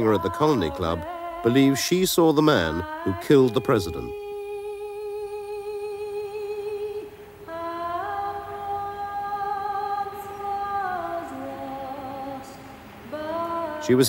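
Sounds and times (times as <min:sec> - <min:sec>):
woman singing long notes: 0:00.0 - 0:14.0.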